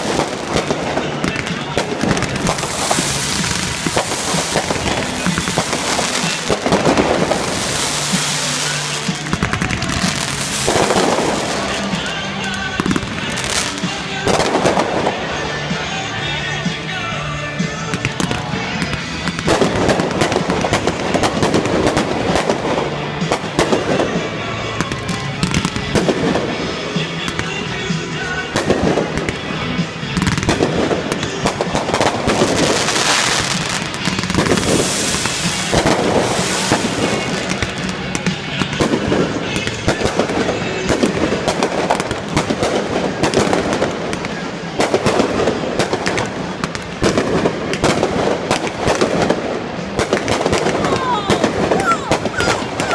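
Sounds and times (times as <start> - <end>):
fireworks bangs: 0.0 - 52.9
fireworks crackling: 0.0 - 52.9
music: 0.0 - 52.9.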